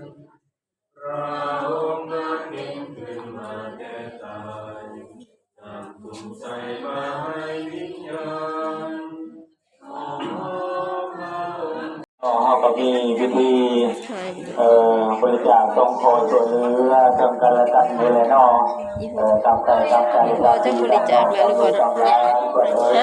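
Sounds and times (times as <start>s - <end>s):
group singing hymn unaccompanied: 0.0s - 0.2s, 1.0s - 23.0s.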